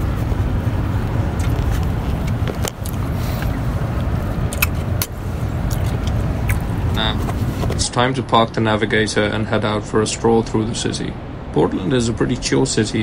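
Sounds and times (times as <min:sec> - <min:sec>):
engine and road noise rumble: 0:00.0 - 0:13.0.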